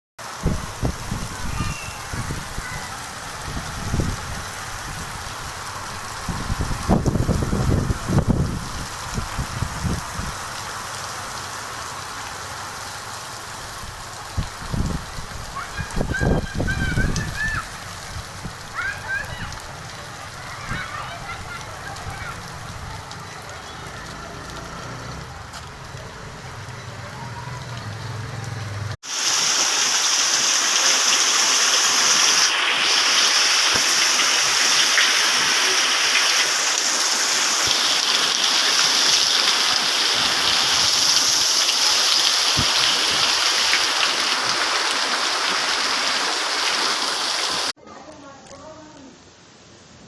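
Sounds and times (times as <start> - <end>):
heavy rain pouring: 0.2 - 47.8.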